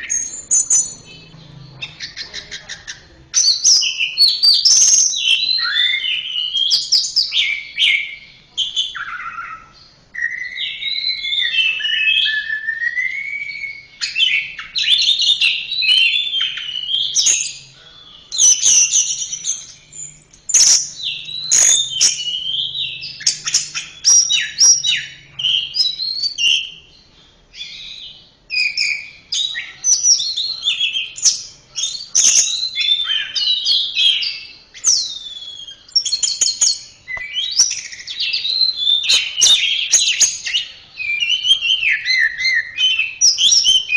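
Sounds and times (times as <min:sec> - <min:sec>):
bird singing whistled phrases: 0:00.0 - 0:02.4, 0:03.4 - 0:43.9.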